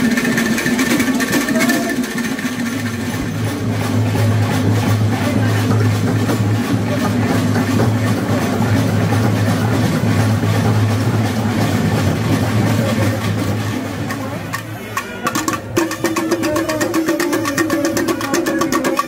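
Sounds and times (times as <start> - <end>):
festival music with percussion: 0.0 - 19.0
idling engine ticking: 0.0 - 19.0
steady engine hum: 0.0 - 19.0.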